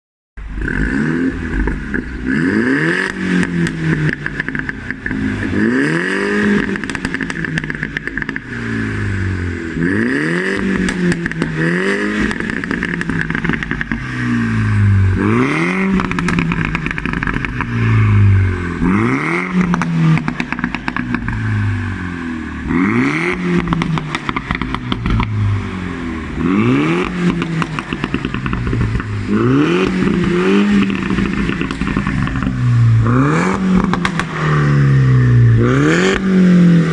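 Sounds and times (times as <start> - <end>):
exhaust crackles and pops: 0.4 - 2.3, 3.0 - 8.7, 10.5 - 14.3, 15.1 - 21.8, 23.2 - 25.6, 26.3 - 36.4
car engine revving: 0.4 - 36.9.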